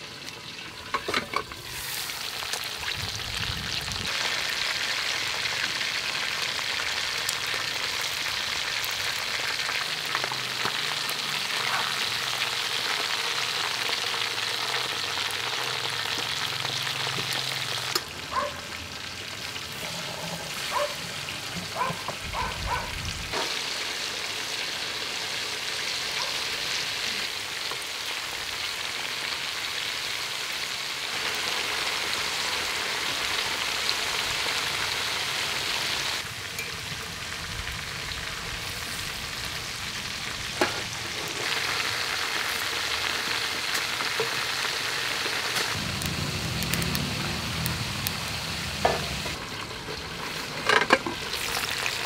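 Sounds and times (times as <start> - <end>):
chicken deep-frying in oil: 0.0 - 52.0.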